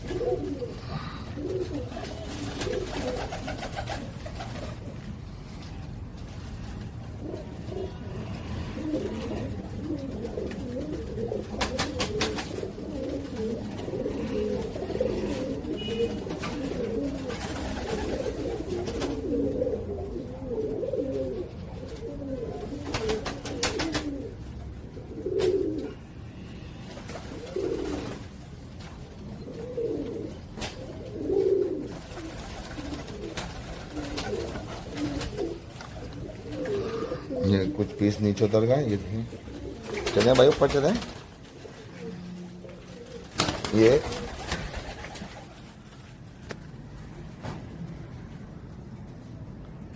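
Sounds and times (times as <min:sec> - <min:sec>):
pigeons cooing: 0:00.0 - 0:46.3.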